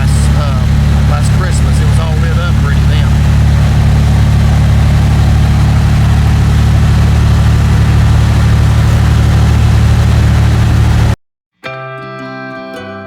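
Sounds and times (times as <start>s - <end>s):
boat engines droning: 0.0s - 11.2s.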